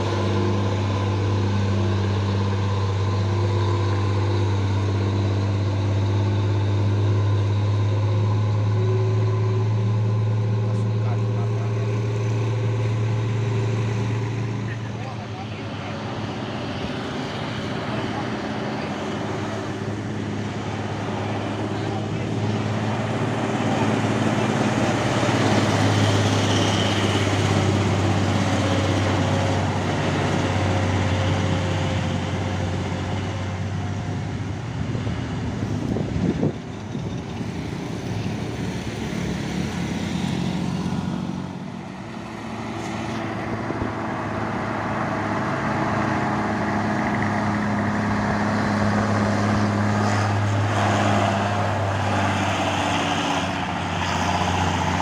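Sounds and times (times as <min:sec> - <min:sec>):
diesel truck engines under load: 0:00.0 - 0:55.0.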